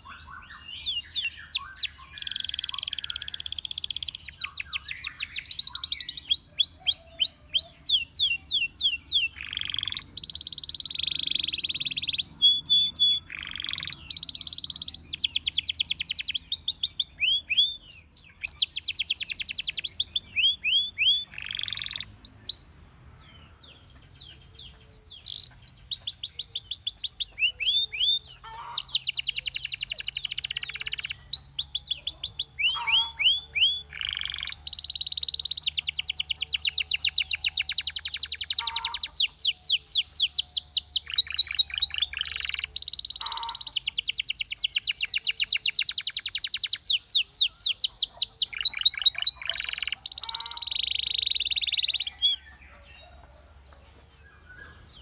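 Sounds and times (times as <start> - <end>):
canary singing trills: 0.0 - 22.7, 23.3 - 55.0.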